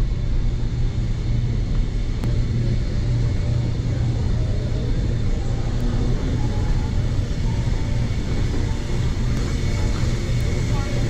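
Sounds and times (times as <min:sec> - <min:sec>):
indoor concourse rumble and hum: 0:00.0 - 0:11.0.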